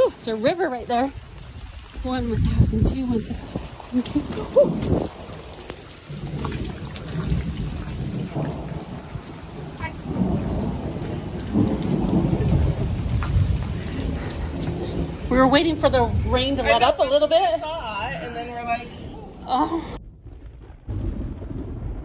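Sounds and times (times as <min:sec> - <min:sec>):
heavy rain pouring: 0:00.0 - 0:22.0
low thunder rumble: 0:00.0 - 0:22.0.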